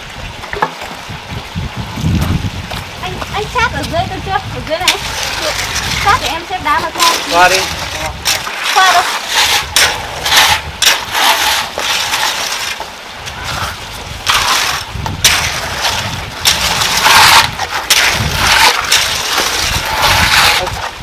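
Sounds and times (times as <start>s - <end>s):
scraping and crunching of stone: 2.0s - 21.0s.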